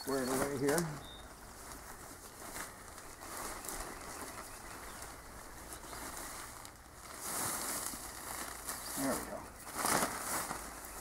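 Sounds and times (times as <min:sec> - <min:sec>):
nylon tent fabric rustling: 0:00.0 - 0:11.0.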